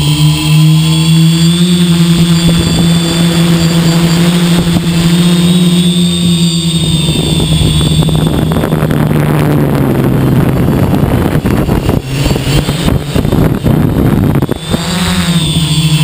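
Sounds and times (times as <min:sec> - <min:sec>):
drone motors humming: 0:00.0 - 0:16.0
wind on microphone: 0:00.0 - 0:16.0.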